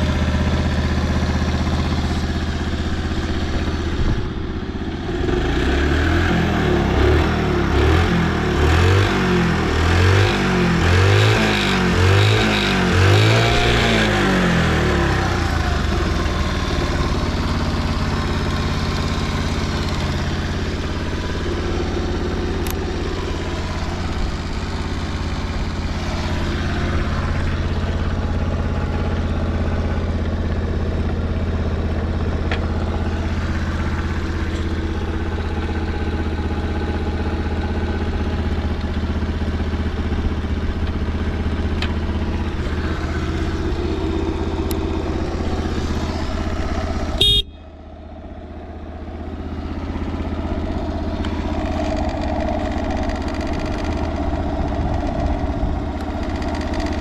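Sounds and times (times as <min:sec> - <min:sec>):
small engine revving and idling: 0:00.0 - 0:57.0.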